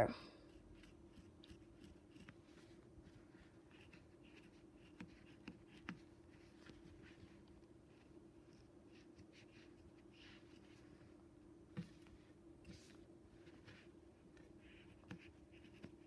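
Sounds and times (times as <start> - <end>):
faint steady hum: 0.0 - 16.0
pencil scratching on fabric: 0.4 - 10.9, 11.8 - 16.0.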